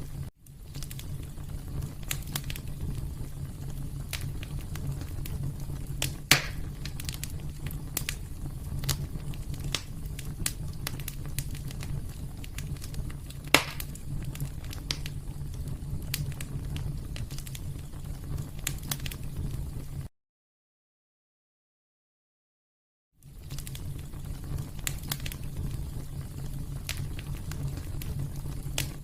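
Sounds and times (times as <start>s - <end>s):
loud fire pops: 0.0s - 20.1s, 23.2s - 29.0s
wood fire crackling: 0.0s - 20.1s, 23.2s - 29.0s.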